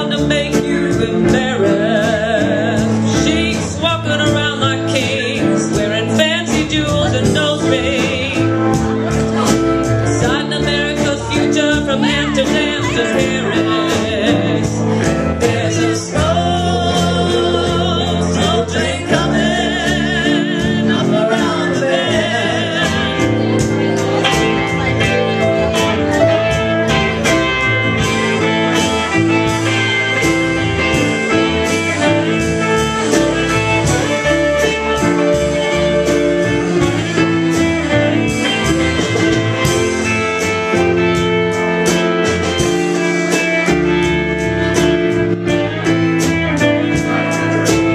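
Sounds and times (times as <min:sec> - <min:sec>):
live blues band with guitars: 0:00.0 - 0:47.9
vibrato lead line: 0:00.0 - 0:47.9.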